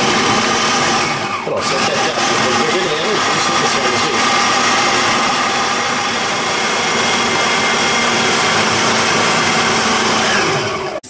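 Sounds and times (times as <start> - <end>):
food processor motor running: 0.0 - 11.0.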